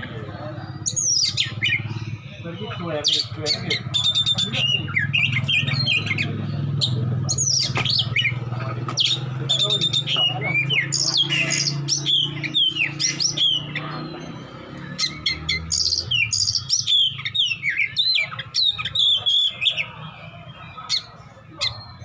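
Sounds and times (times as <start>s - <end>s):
bird singing whistles and chatter: 0.0s - 22.0s.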